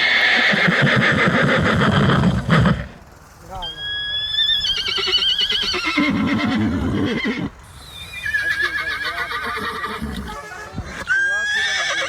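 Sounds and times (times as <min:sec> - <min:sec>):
horse whinnying: 0:00.0 - 0:03.0, 0:03.8 - 0:12.0.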